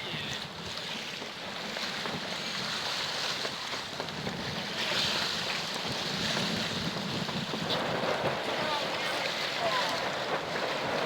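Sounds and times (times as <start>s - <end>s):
water washing along hull: 0.0s - 11.0s
wind on microphone: 0.0s - 11.0s.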